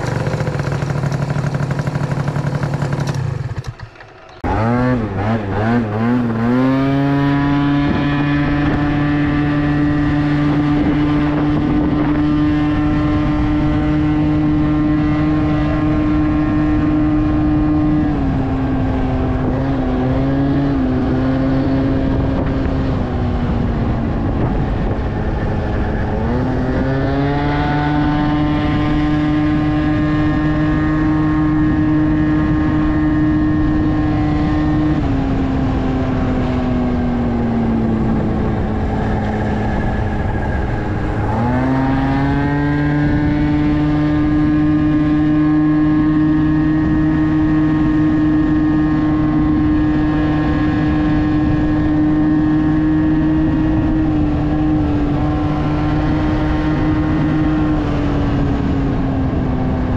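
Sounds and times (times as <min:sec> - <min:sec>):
scooter engine under throttle: 0:00.0 - 0:59.9.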